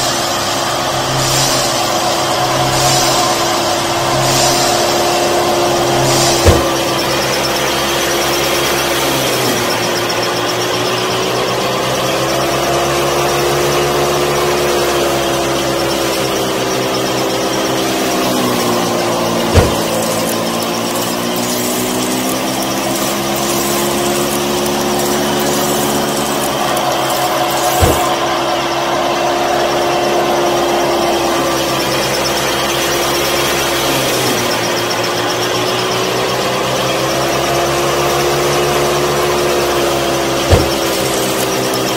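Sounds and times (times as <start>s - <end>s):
small electric motor humming: 0.0s - 41.9s.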